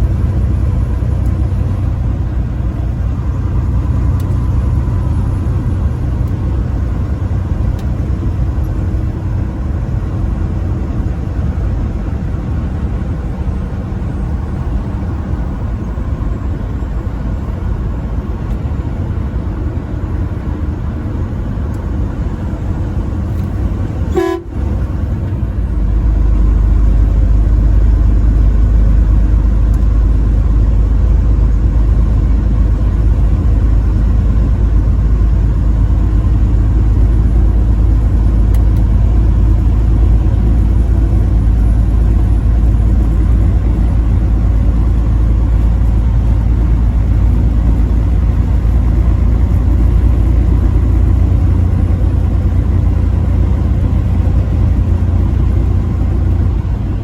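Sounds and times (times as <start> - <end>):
truck engine and road rumble: 0.0 - 57.0.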